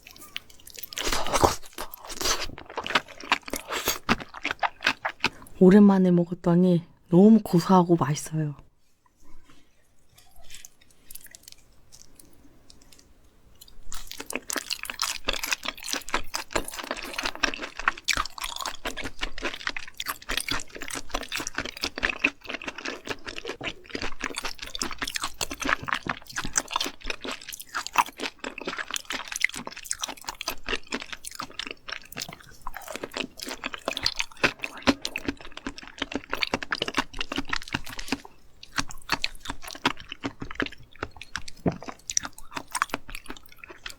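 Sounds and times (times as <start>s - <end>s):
person chewing with wet crunching: 0.0s - 5.8s, 9.3s - 43.9s.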